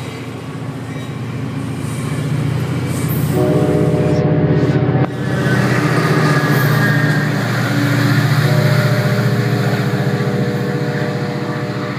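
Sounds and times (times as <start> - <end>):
diesel locomotive engine drone: 0.0 - 11.9
rail noise: 0.0 - 11.9.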